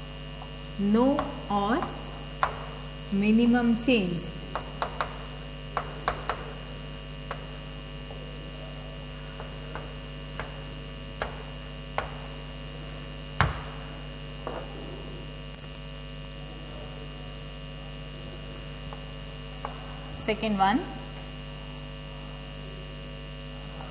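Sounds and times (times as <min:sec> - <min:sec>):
electrical mains hum: 0:00.0 - 0:23.9.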